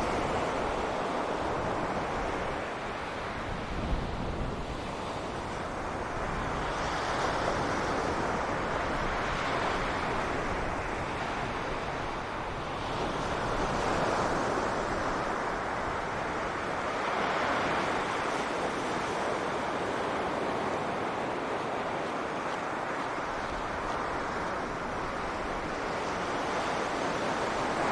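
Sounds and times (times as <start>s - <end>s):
sea waves breaking on beach: 0.0s - 27.9s
wind rumble on microphone: 0.0s - 27.9s.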